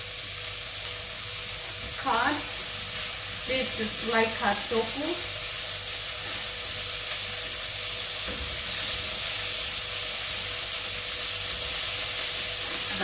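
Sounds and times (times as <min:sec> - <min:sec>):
tofu sizzling in hot oil: 0:00.0 - 0:13.0.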